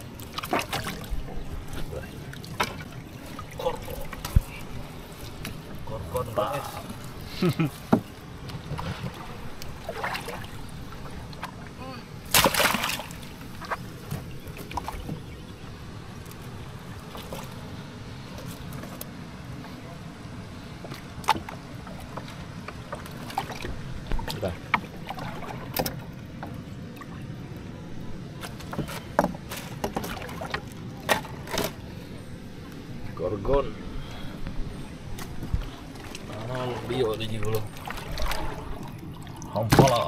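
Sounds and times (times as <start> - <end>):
water and wind rumble: 0.0 - 40.0.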